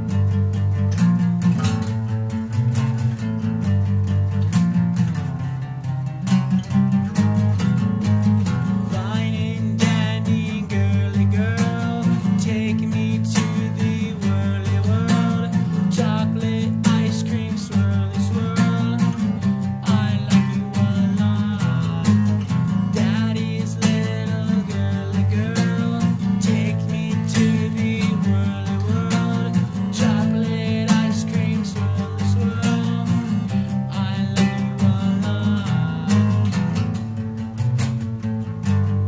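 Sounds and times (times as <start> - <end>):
guitar music with steady beat: 0.0 - 39.0.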